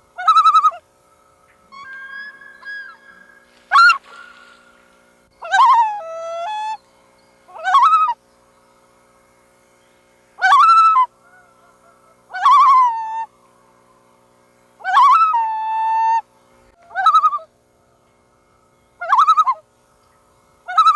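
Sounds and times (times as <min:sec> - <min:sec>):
loons calling: 0:00.0 - 0:09.1, 0:10.4 - 0:20.9
faint steady hum: 0:00.0 - 0:20.9.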